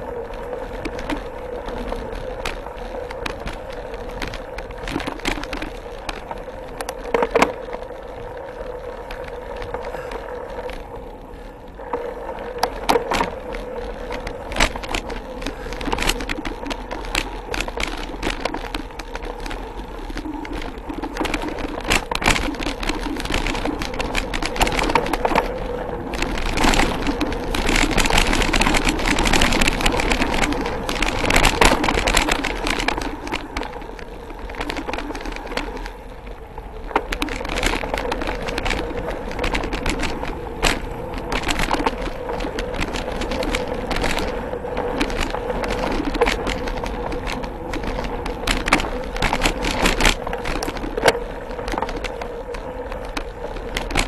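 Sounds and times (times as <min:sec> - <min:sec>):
bike rattling over bumps: 0:00.0 - 0:54.0
bike tyres on dirt: 0:00.0 - 0:54.0.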